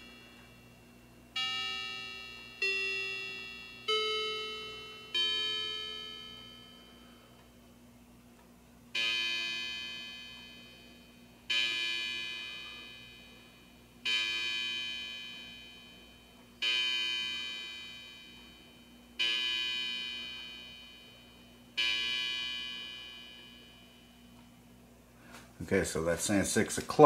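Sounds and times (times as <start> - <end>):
electronic clock gong chimes: 0.0 - 7.4, 8.9 - 24.4.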